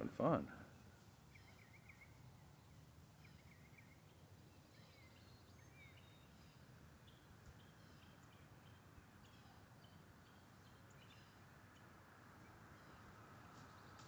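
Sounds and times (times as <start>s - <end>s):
distant small birds chirping: 0.0s - 14.0s.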